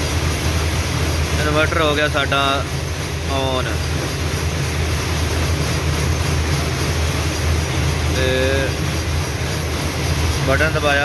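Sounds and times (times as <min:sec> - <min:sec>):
looms rumbling and clattering: 0:00.0 - 0:11.0.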